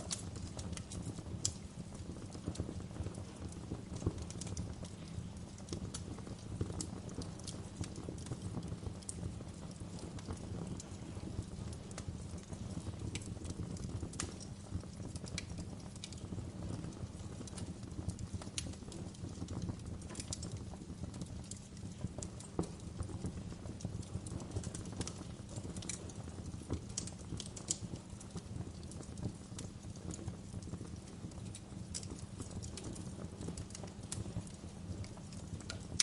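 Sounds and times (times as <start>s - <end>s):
gentle rain: 0.0s - 36.0s
wood fire crackling: 0.0s - 36.0s.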